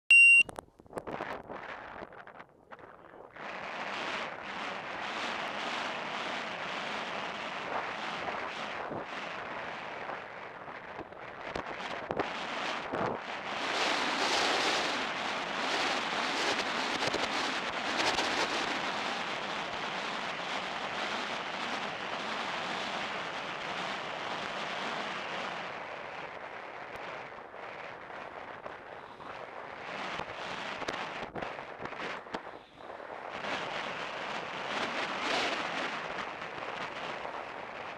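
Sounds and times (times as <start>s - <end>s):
wind buffeting microphone: 0.8s - 37.9s.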